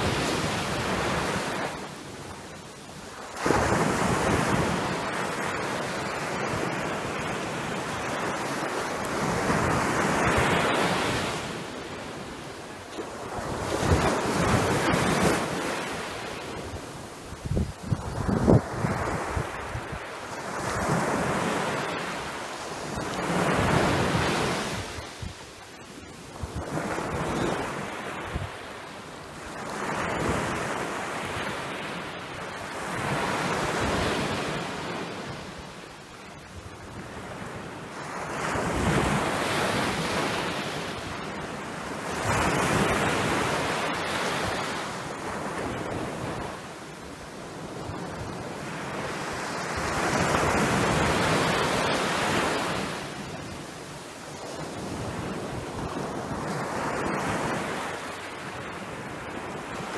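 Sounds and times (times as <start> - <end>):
wind on microphone: 0.0 - 28.8, 36.5 - 59.9
sea waves breaking on beach: 0.0 - 59.9.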